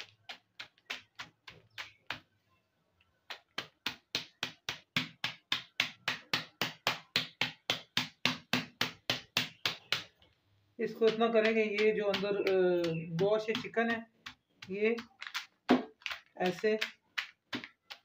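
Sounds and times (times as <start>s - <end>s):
rolling pin pounding meat: 0.0s - 2.4s, 3.2s - 10.2s, 10.8s - 18.0s.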